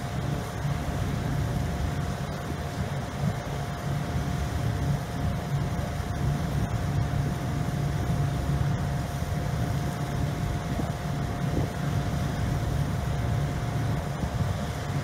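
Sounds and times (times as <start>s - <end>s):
faint steady whine: 0.0s - 15.0s
ship engines low rumble: 0.0s - 15.0s.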